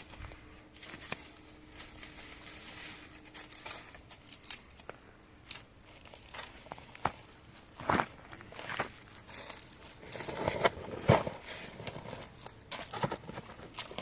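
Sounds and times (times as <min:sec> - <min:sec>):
faint steady hum: 0:00.0 - 0:14.0
rustling: 0:00.0 - 0:14.0.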